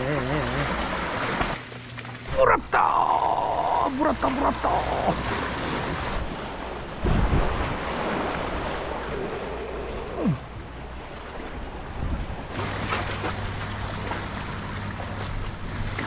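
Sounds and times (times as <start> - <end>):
low steady hum: 0.0 - 16.0
sea waves washing: 0.0 - 16.0.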